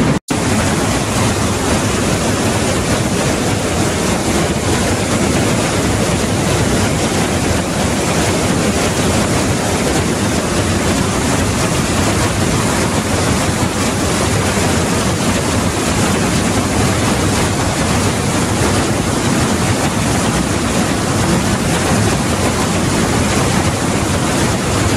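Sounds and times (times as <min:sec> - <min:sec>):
waterfall rushing through gorge: 0:00.0 - 0:24.9.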